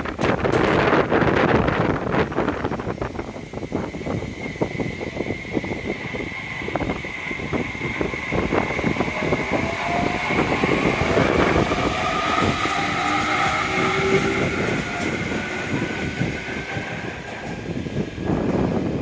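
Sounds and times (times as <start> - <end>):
train wheels clattering on rails: 0.0 - 19.0
high whining tones: 2.8 - 19.0.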